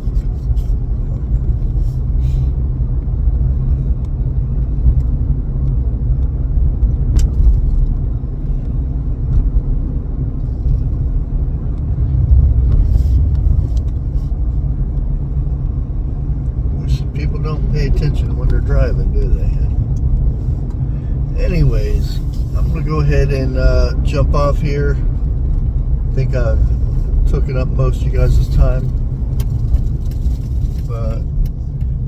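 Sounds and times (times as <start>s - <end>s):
car engine rumble: 0.0s - 32.0s
road noise inside car: 0.0s - 32.0s.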